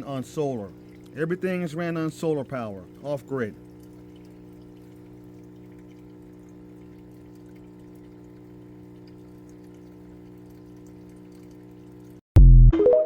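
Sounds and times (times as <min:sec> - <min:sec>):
faint trickling water: 0:00.0 - 0:12.2.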